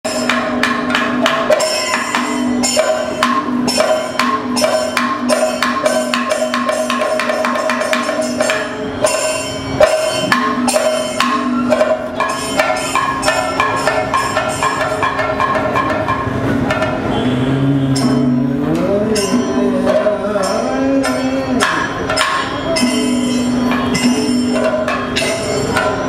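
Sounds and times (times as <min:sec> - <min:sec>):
drum beating: 0:00.0 - 0:26.0
hand cymbals striking: 0:00.0 - 0:26.0.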